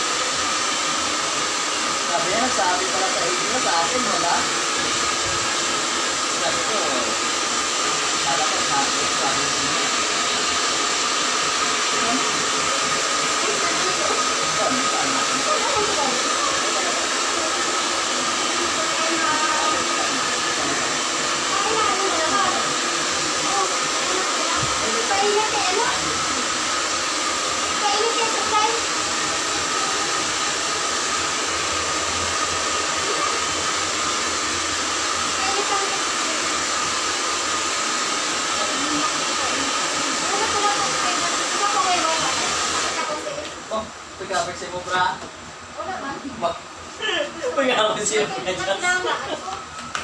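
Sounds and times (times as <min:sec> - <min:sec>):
hair dryer blowing: 0:00.0 - 0:50.0.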